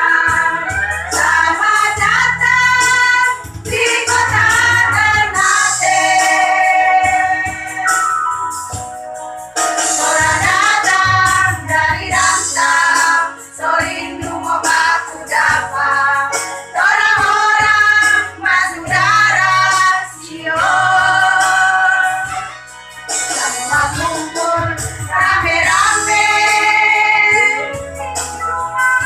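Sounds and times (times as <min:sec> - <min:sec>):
women's choir singing: 0:00.0 - 0:07.9, 0:10.0 - 0:22.3, 0:23.7 - 0:27.6
musical accompaniment with bass: 0:00.0 - 0:29.0.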